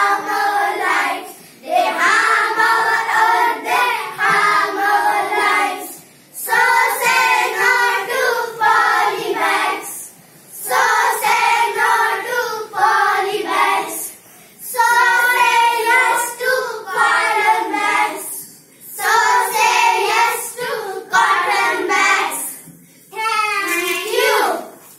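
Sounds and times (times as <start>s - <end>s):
young children singing in unison: 0.0s - 24.9s.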